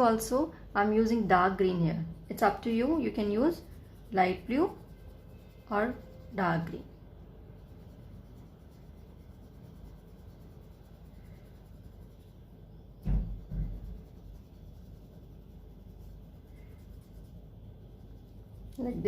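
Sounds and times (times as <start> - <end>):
crayon rubbing on paper: 1.0 - 12.5, 13.2 - 19.0.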